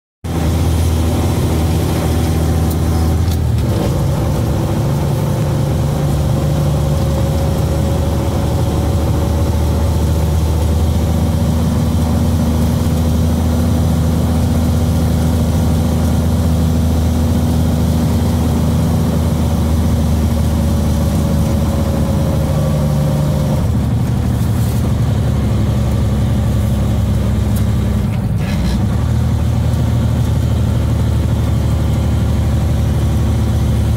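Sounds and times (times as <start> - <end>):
truck diesel engine running: 0.2 - 33.9.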